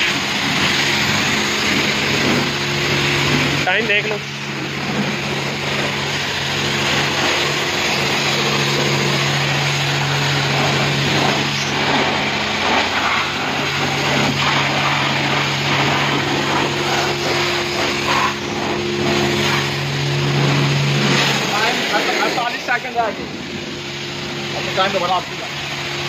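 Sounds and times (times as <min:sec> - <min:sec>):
pressure washer spraying car: 0:00.0 - 0:26.0
pump humming: 0:00.0 - 0:26.0.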